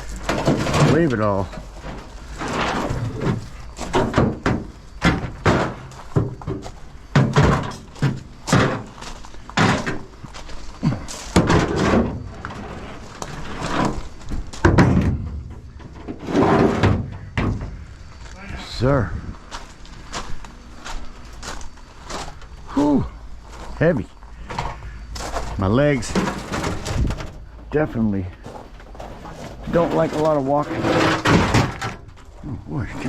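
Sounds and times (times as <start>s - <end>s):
scrap metal clanking and thudding: 0.0s - 18.3s, 24.4s - 33.0s.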